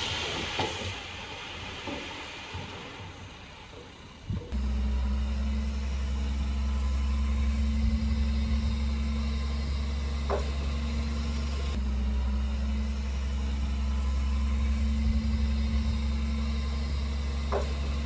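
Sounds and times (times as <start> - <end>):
heavy diesel engine running: 1.1 - 18.0.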